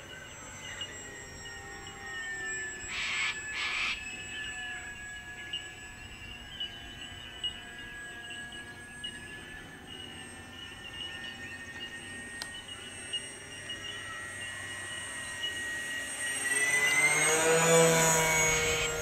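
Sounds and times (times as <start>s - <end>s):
model plane motors whining: 0.0s - 19.0s.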